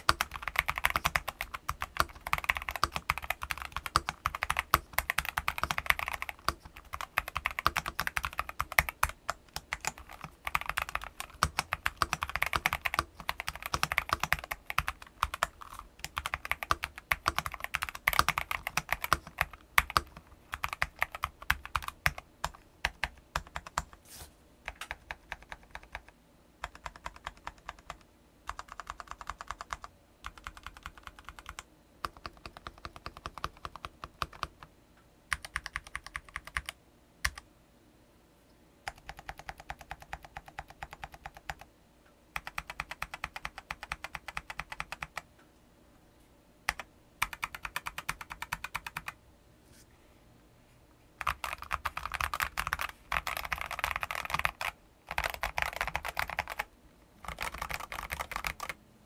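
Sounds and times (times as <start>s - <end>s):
mechanical keyboard typing: 0.0s - 24.0s, 24.7s - 34.7s, 35.3s - 37.4s, 38.8s - 41.7s, 42.4s - 45.3s, 46.7s - 49.2s, 51.2s - 58.8s.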